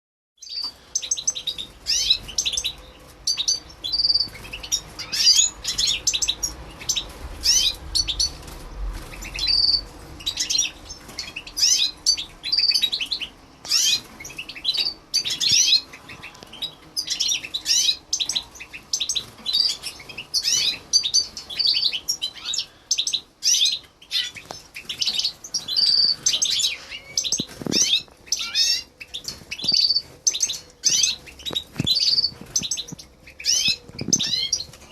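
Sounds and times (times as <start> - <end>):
birds chirping and twittering: 0.4 - 34.9.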